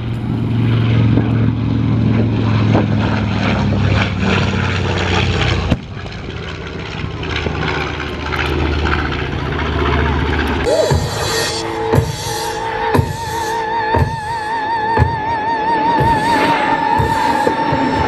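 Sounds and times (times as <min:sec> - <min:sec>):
aircraft engines droning: 0:00.0 - 0:18.0.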